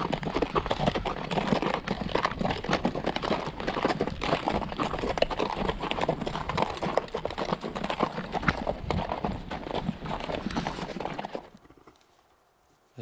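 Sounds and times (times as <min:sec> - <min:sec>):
horse hooves on rocky ground: 0:00.0 - 0:13.0.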